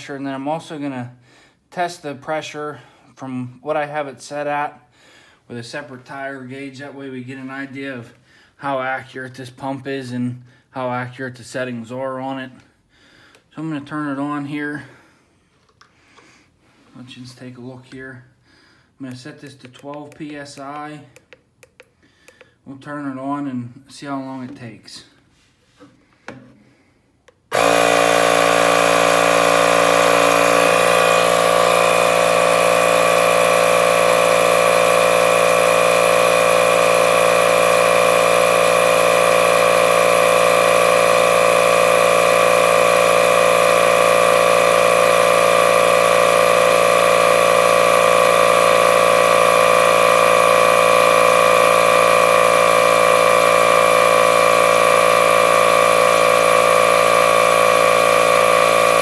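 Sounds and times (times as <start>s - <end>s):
inflator compressor running: 0.0s - 9.0s, 12.2s - 17.0s, 17.9s - 22.6s, 24.4s - 59.0s.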